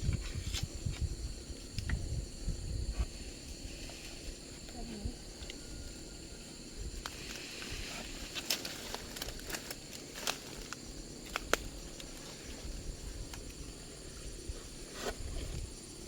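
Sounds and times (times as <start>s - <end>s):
high insect hum: 0.0s - 16.0s.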